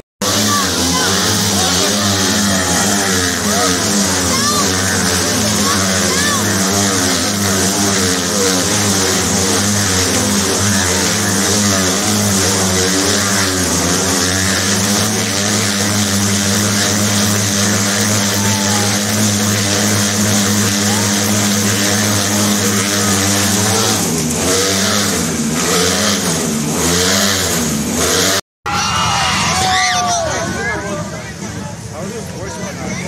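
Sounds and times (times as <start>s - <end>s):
motorcycle engines droning: 0.0s - 33.0s.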